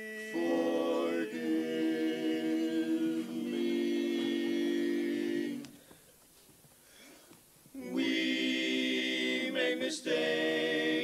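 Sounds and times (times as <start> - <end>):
male quartet singing a cappella: 0.0 - 5.8, 7.8 - 11.0.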